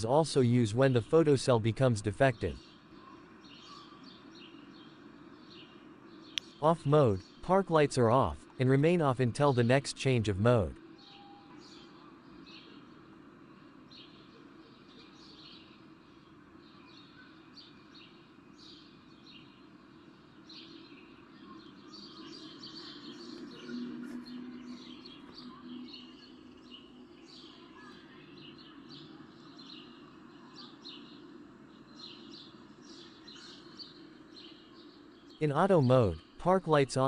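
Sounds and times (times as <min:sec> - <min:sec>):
low steady background noise: 0:00.0 - 0:37.0
small birds chirping: 0:00.0 - 0:37.0.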